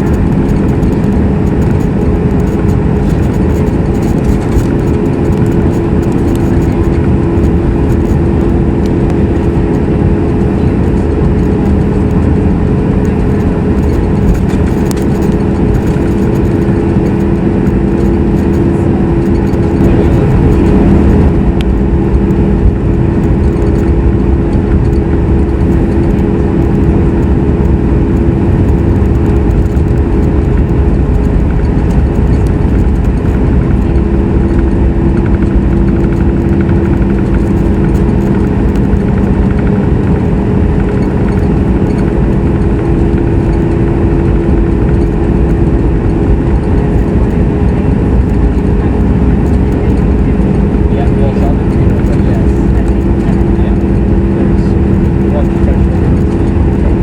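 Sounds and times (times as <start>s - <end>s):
constant hums: 0.0s - 57.0s
jet engine and airflow drone: 0.0s - 57.0s.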